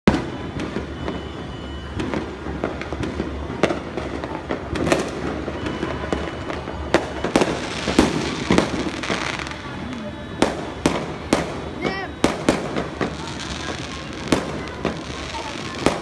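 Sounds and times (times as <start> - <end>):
distant fireworks din: 0.1 - 16.0.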